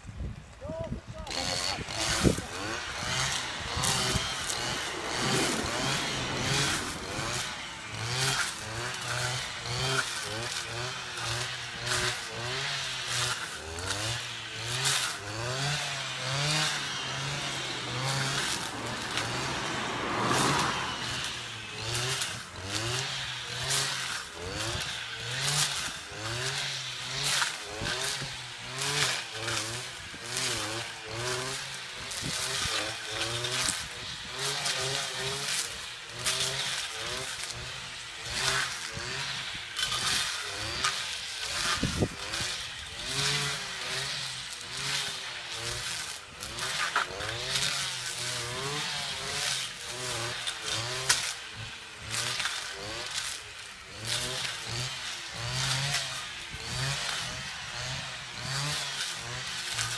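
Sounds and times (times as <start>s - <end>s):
brushcutter engine revving: 1.1s - 59.9s.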